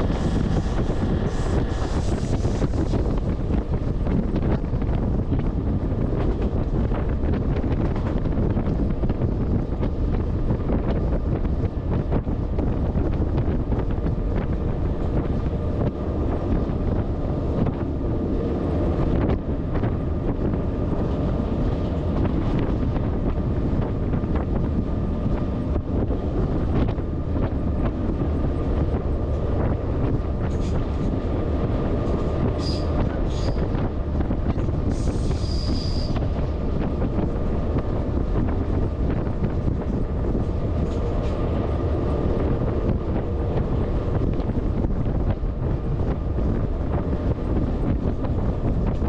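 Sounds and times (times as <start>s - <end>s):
freight train wheels rumbling: 0.0s - 49.0s
high squeals of train: 0.0s - 49.0s
wind buffeting microphone: 0.0s - 49.0s.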